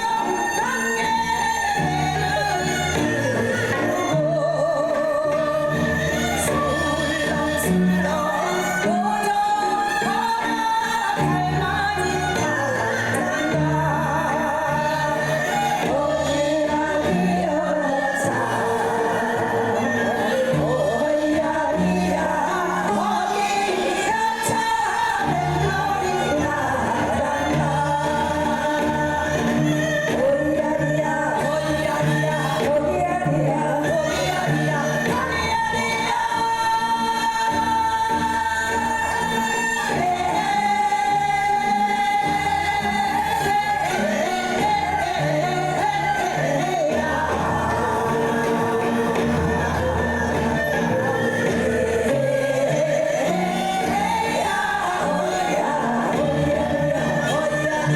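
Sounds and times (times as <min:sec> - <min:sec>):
instrumental accompaniment: 0:00.0 - 0:57.9.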